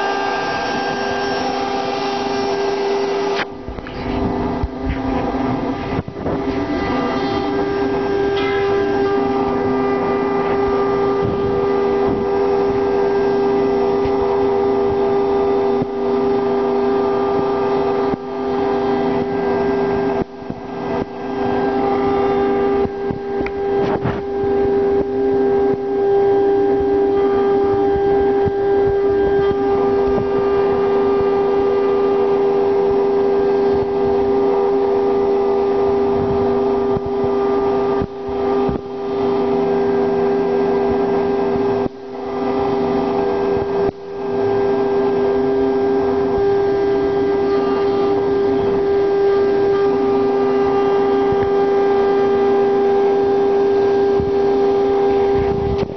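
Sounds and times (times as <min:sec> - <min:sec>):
router spindle whine: 0:00.0 - 0:55.9.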